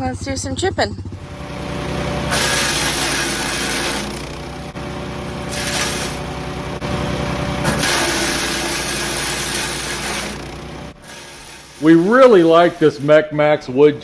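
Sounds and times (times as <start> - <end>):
wood chipper engine running: 0.1 - 14.0.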